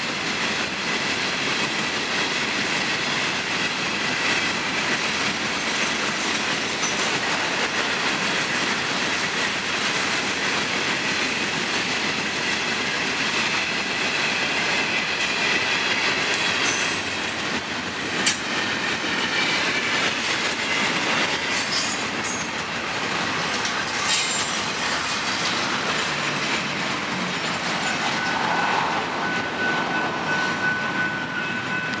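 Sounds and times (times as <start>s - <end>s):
freight train cars rolling: 0.0s - 32.0s.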